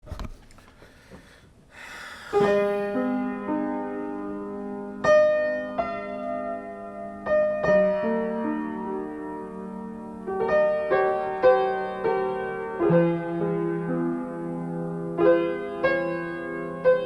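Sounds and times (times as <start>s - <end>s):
slow piano chords: 2.3s - 17.0s.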